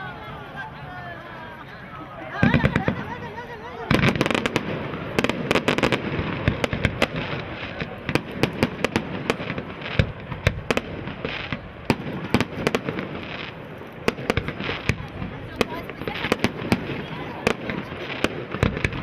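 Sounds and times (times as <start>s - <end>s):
fireworks crackling: 0.0s - 19.0s
firework bangs: 2.3s - 19.0s.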